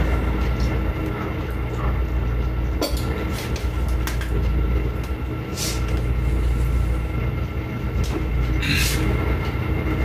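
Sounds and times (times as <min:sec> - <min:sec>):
low droning hum: 0:00.0 - 0:10.0.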